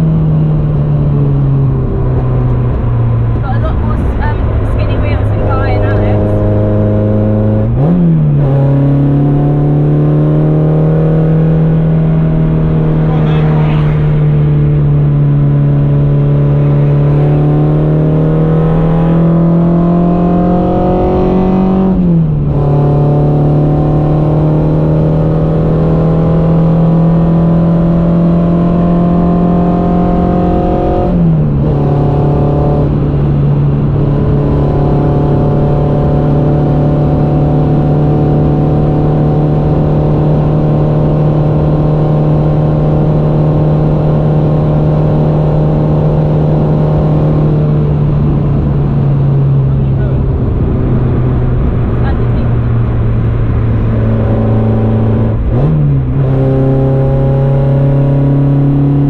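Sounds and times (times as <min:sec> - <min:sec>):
car engine at full throttle: 0:00.0 - 0:59.0
road and tyre noise: 0:00.0 - 0:59.0.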